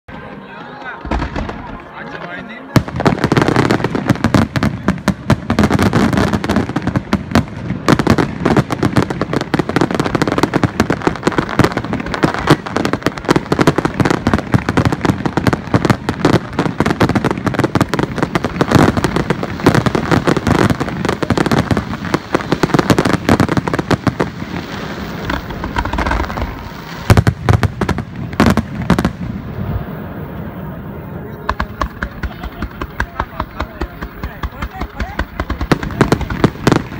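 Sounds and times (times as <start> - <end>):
fireworks bursting and crackling: 0.1 - 36.9.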